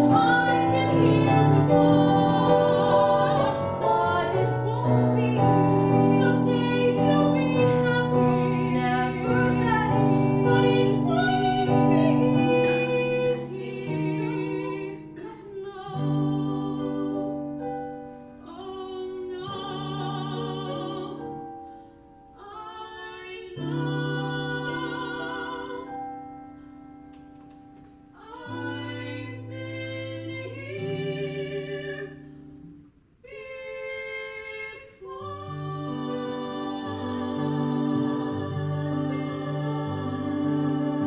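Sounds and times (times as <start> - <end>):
women singing: 0.0 - 17.7, 18.4 - 21.6, 22.4 - 26.2, 28.2 - 32.5, 33.2 - 41.0
piano accompaniment: 0.0 - 41.0.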